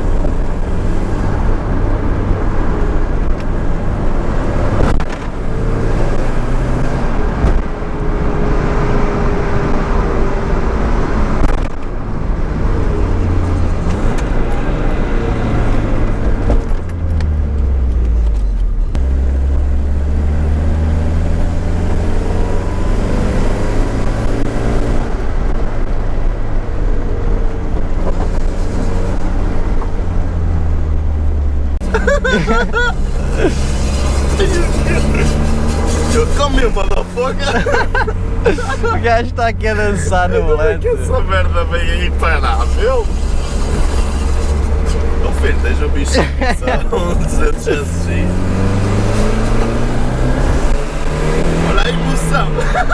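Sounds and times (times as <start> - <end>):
car engine revving through gears: 0.0 - 52.9.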